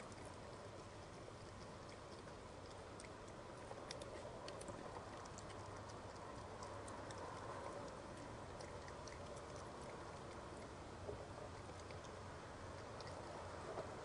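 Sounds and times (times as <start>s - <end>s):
faint steady hiss: 0.0s - 14.0s
raccoon crunching corn: 0.0s - 14.0s.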